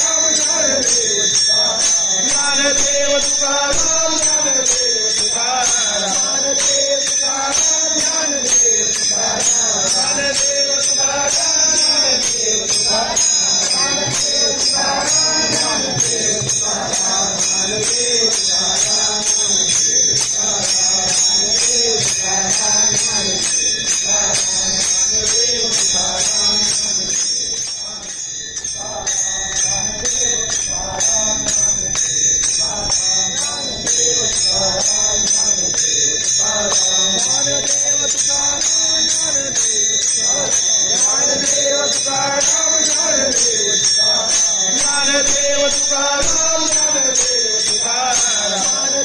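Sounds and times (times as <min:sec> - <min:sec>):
devotional singing: 0:00.0 - 0:49.0
hand cymbals clashing: 0:00.0 - 0:49.0.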